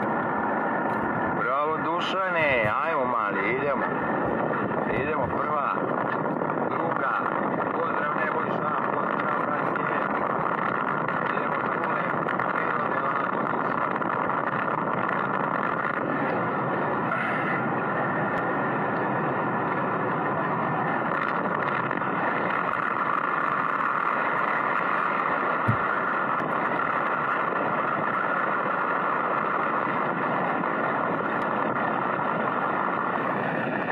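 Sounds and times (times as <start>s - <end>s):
vehicle driving on dirt track: 0.0s - 33.9s.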